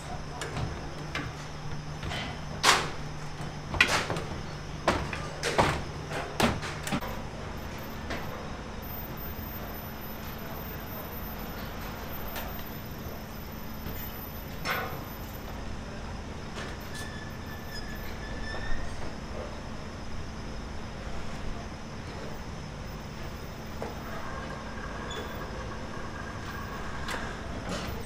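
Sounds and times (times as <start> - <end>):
heavy engine running: 0.0 - 16.8, 21.0 - 28.0.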